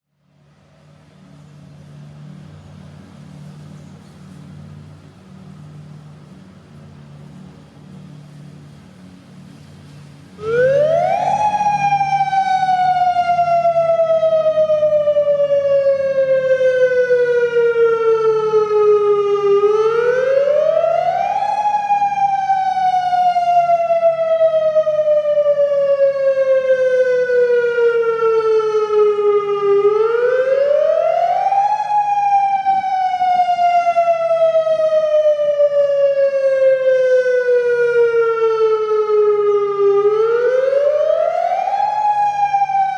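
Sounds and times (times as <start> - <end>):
warning siren wailing: 2.6 - 42.9.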